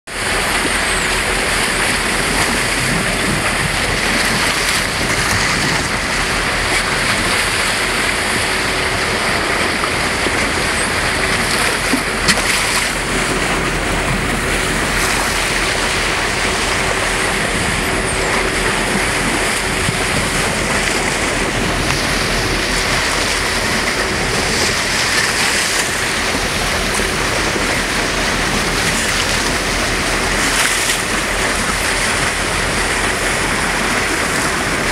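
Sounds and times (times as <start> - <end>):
sea water rushing along boat: 0.0 - 34.9
wind noise on microphone: 0.2 - 34.9.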